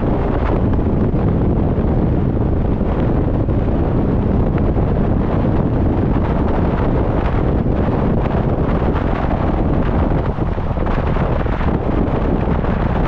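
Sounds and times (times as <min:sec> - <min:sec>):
vehicle road noise rumble: 0:00.0 - 0:13.0
wind buffeting microphone: 0:00.0 - 0:13.0.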